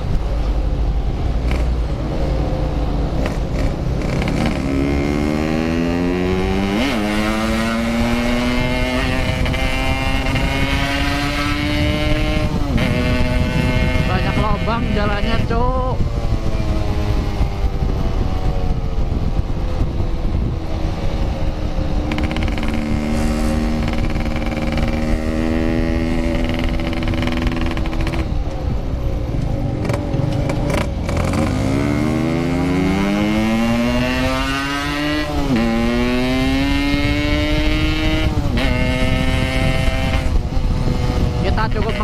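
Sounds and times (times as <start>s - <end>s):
motorcycle engine revving: 0.0s - 42.0s
wind and road rush: 0.0s - 42.0s.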